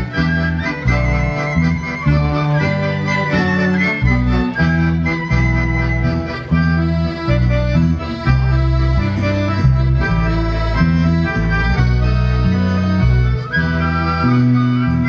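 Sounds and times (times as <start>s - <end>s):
accordion folk melody: 0.0s - 15.0s.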